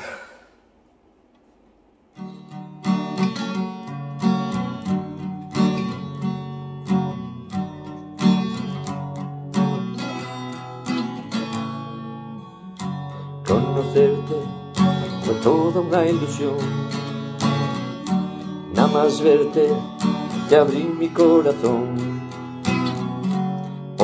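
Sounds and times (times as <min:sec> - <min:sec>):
acoustic guitar strumming chords: 0:02.2 - 0:24.0.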